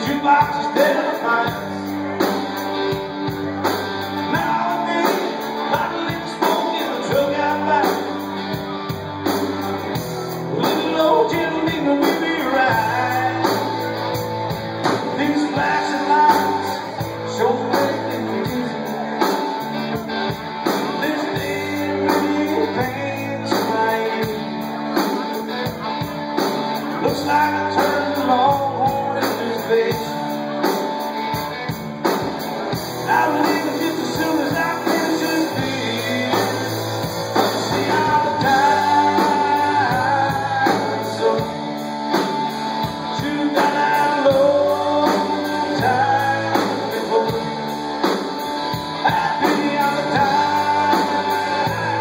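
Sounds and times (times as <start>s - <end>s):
man singing: 0.0s - 26.0s, 26.7s - 31.0s, 33.0s - 52.0s
drum kit: 0.0s - 52.0s
electric guitars: 0.0s - 52.0s.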